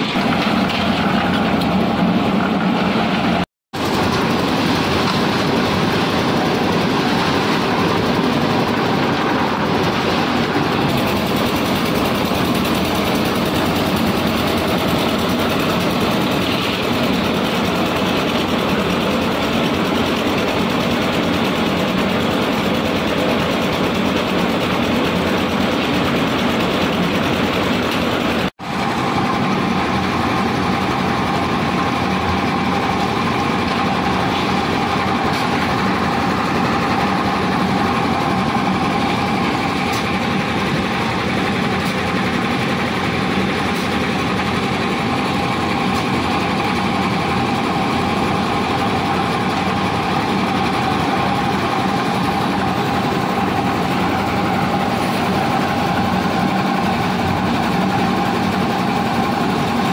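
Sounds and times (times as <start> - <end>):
concrete mixer engine running: 0.0 - 59.9.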